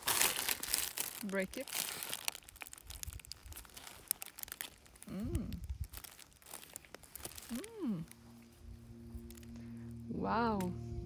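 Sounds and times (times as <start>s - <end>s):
pastry crust crackling: 0.0s - 9.6s
paper wrapper crinkling: 0.0s - 10.0s.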